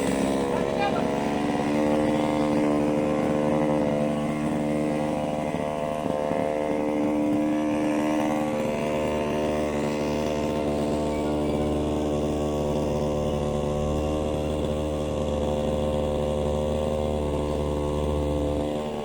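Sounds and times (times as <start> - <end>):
motor running steadily: 0.0 - 19.0.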